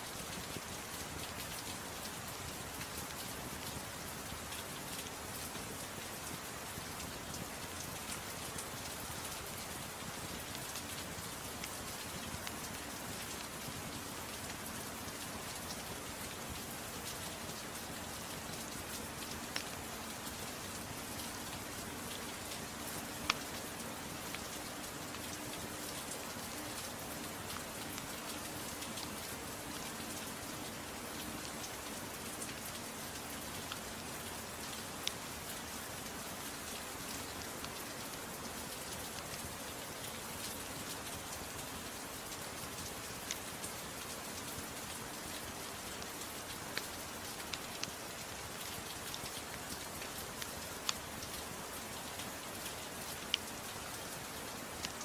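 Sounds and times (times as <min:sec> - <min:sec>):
soft rain falling: 0:00.0 - 0:55.0.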